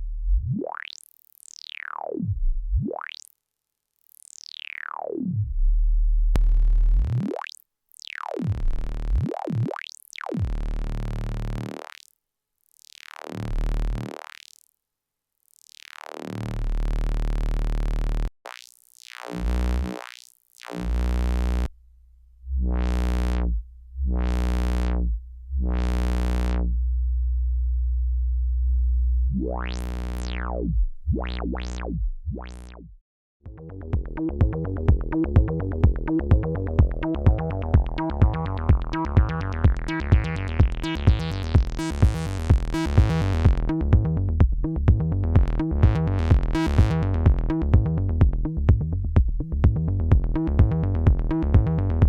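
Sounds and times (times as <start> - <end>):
analog synth bass with filter sweeps: 0.0 - 3.3, 4.2 - 12.1, 12.8 - 14.5, 15.6 - 52.0.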